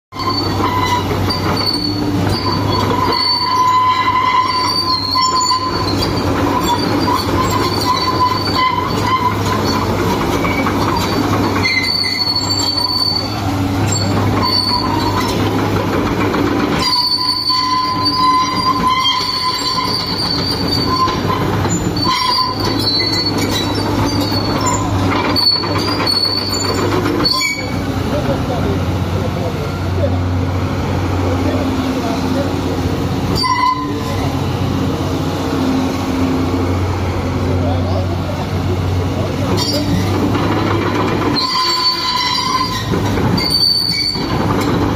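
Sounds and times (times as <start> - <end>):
crawler tracks squealing: 0.1 - 44.9
diesel engine hum: 0.2 - 44.9.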